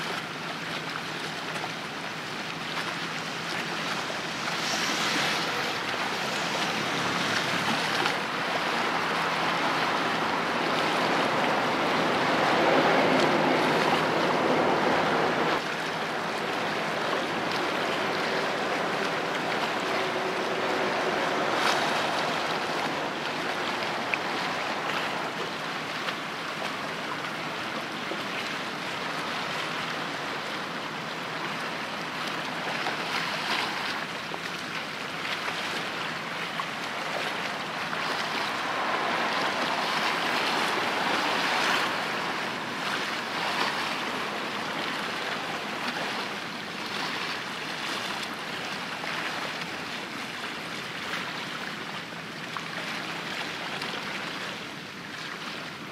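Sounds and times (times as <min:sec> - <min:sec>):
water lapping on shore: 0:00.0 - 0:55.9.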